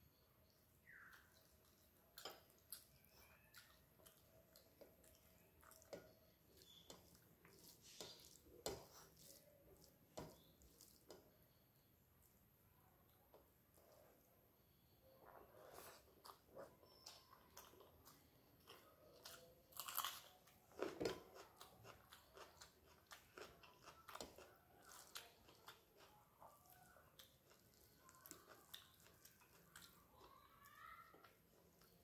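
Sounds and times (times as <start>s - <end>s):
person chewing food: 0.8s - 11.5s, 15.0s - 32.0s.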